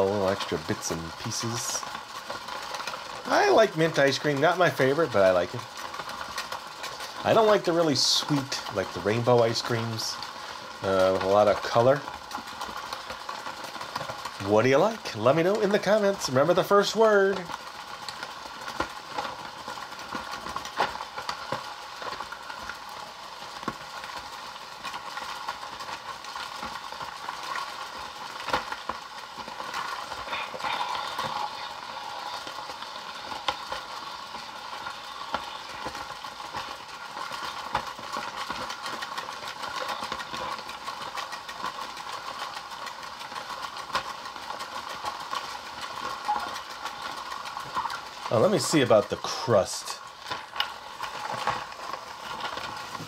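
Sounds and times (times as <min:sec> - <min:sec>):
toy crank churning rattle: 0:00.0 - 0:53.0.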